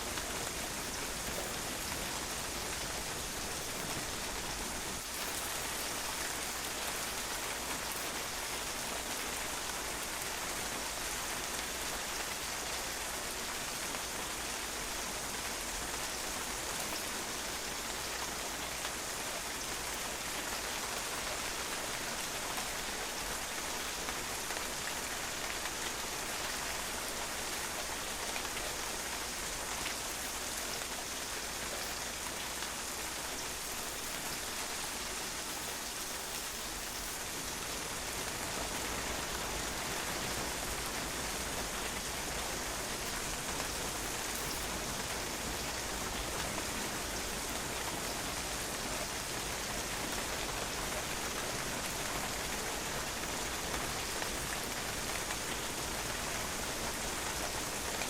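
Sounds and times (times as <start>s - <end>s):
rain pattering on a patio: 0.0s - 58.0s.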